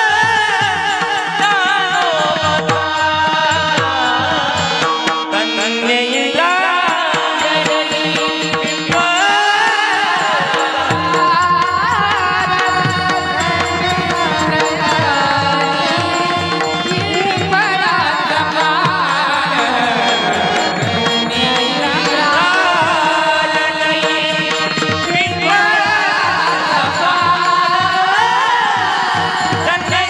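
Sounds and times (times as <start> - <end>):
gliding devotional melody: 0.0 - 30.0.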